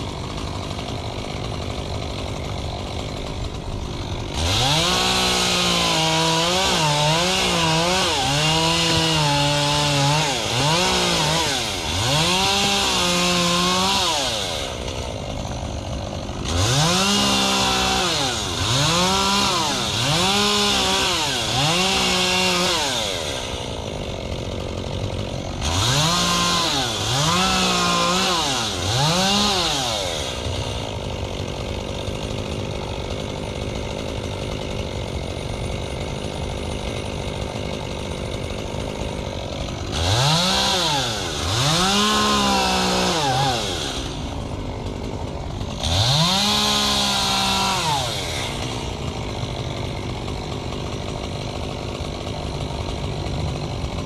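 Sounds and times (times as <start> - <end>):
chainsaw idling: 0.0 - 54.0
chainsaw revving: 0.0 - 54.0.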